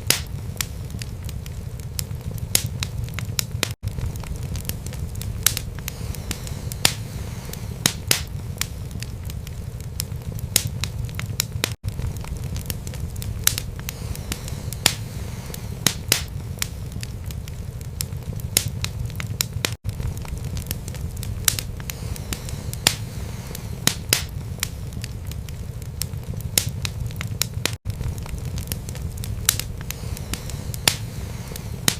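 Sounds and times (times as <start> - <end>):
fire crackling and popping: 0.0 - 31.9
low rumble of flames: 0.0 - 31.9.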